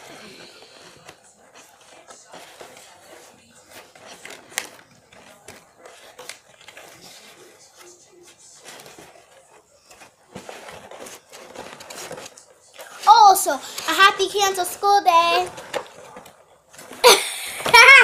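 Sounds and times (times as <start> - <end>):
cardboard box rustling: 0.7 - 13.9, 14.8 - 17.0.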